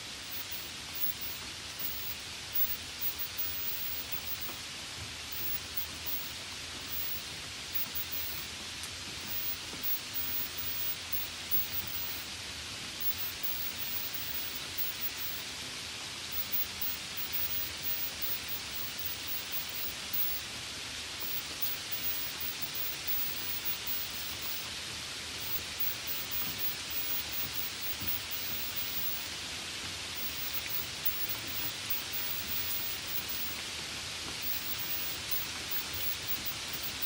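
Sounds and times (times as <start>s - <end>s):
light rain falling: 0.0s - 37.0s.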